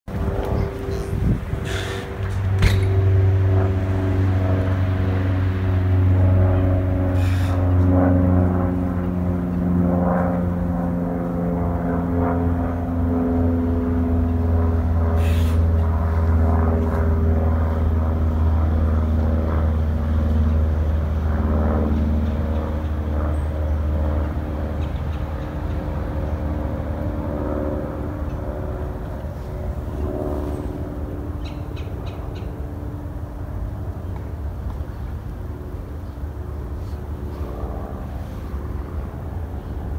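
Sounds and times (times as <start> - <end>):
propeller plane droning overhead: 0.0 - 39.9.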